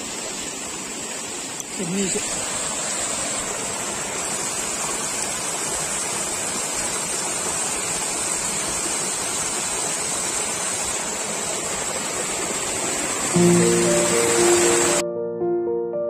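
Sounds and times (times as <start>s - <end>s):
stream pouring down rocks: 0.0s - 14.9s.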